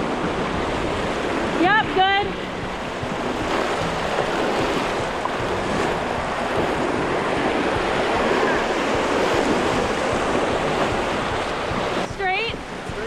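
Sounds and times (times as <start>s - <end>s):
rapids rushing and splashing: 0.0s - 13.0s.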